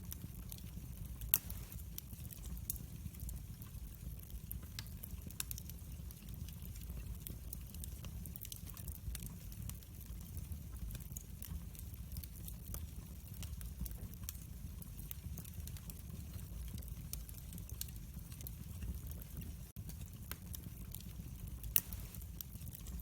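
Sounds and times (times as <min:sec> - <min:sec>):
fire crackling and popping: 0:00.0 - 0:23.0
fire rumbling: 0:00.0 - 0:23.0.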